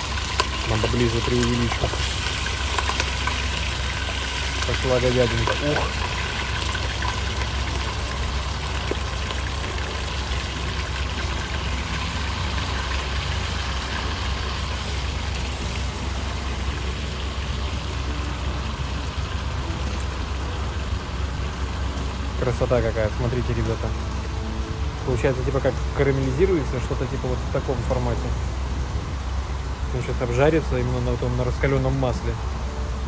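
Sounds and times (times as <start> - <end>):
meat sizzling in hot oil: 0.0 - 31.1.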